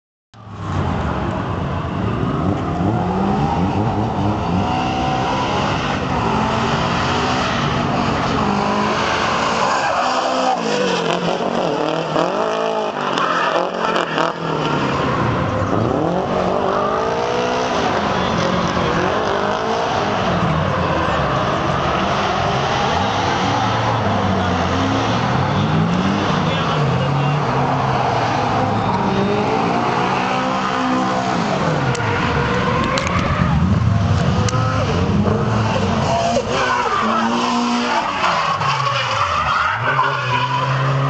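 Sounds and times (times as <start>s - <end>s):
car engine revving: 0.4s - 41.0s.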